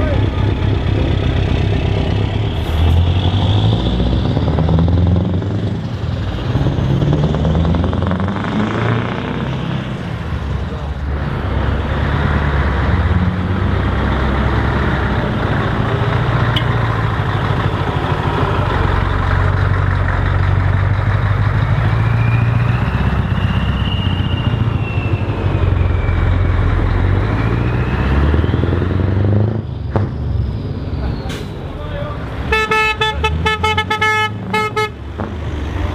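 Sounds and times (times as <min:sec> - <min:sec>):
truck diesel engine rumbling: 0:00.0 - 0:35.9.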